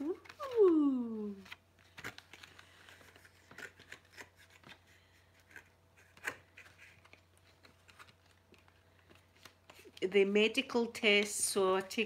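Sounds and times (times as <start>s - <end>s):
packaging clicks and rustles: 0.0s - 10.0s.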